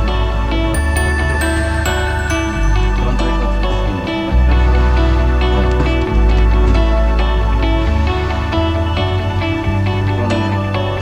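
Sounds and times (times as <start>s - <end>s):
gentle new-age music: 0.0s - 11.0s.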